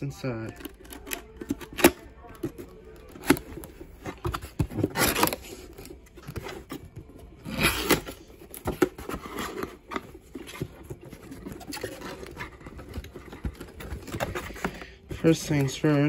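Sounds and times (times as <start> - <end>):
cardboard box being opened: 0.5 - 16.0.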